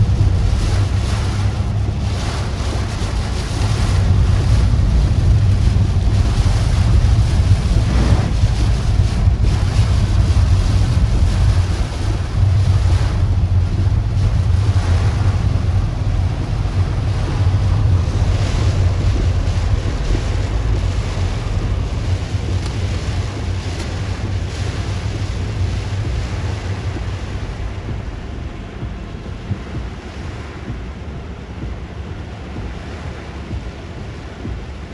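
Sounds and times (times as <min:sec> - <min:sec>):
strong wind gusting on microphone: 0:00.0 - 0:34.9.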